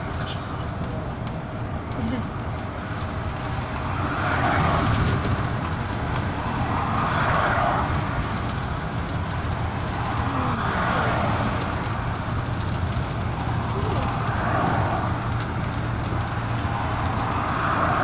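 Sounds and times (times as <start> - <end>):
bus engine drone: 0.0 - 18.0
road and wind noise: 0.0 - 18.0.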